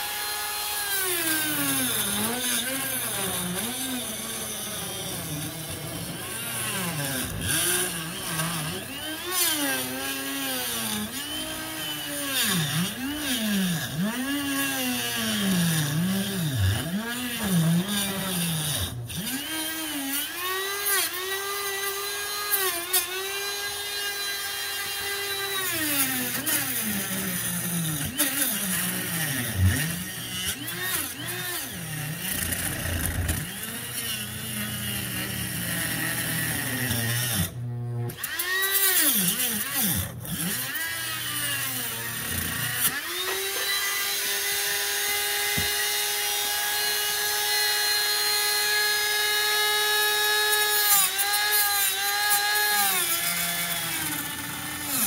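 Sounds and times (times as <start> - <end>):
rotary tool cutting metal: 0.0 - 55.0.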